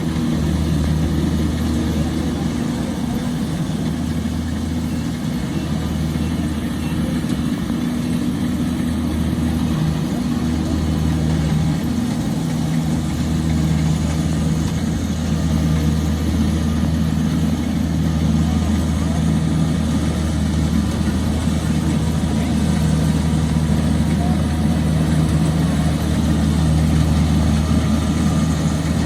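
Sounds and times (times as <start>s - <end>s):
large engine humming: 0.0s - 29.0s.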